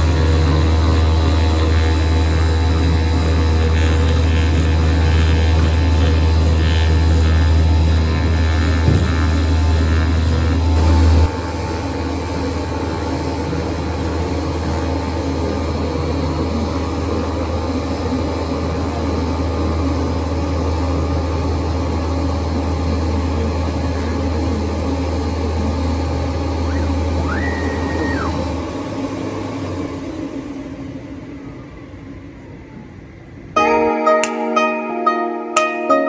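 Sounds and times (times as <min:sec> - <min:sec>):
cutting machine motor hum: 0:00.0 - 0:29.6
high machine whine: 0:00.0 - 0:32.4.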